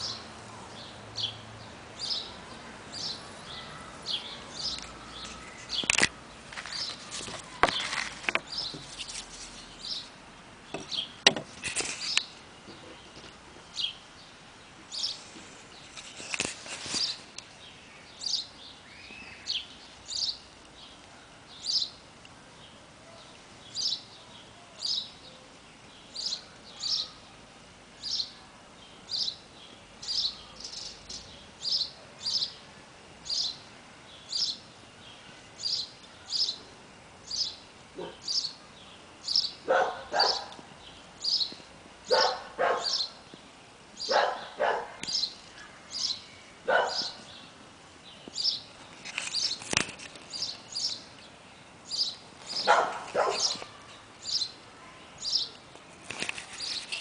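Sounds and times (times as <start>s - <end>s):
bird chirping: 0.0s - 27.4s, 28.0s - 55.6s.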